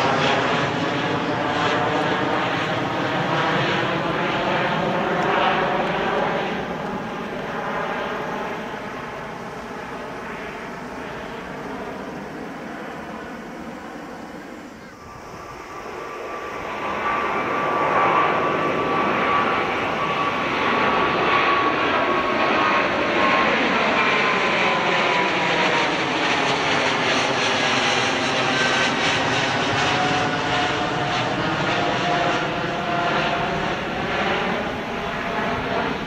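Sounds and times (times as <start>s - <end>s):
jet airliner passing overhead: 0.0s - 36.0s.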